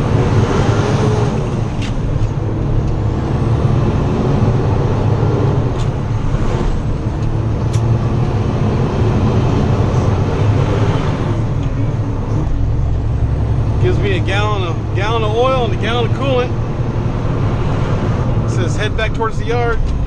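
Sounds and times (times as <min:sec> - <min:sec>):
truck diesel engine rumbling: 0:00.0 - 0:20.0.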